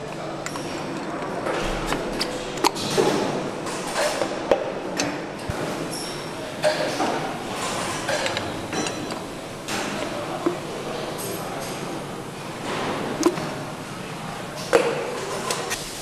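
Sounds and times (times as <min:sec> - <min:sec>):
workshop background noise: 0:00.0 - 0:16.0.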